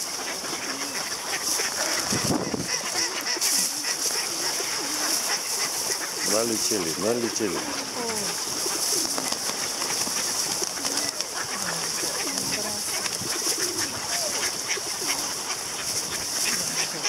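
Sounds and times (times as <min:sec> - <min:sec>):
bird calls: 0:00.0 - 0:17.0
wings flapping: 0:00.0 - 0:17.0.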